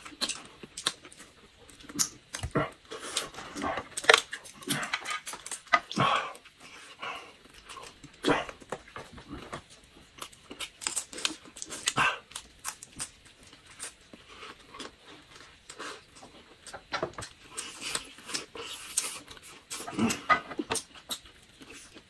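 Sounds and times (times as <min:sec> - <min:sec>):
food crunching: 0:00.0 - 0:22.0.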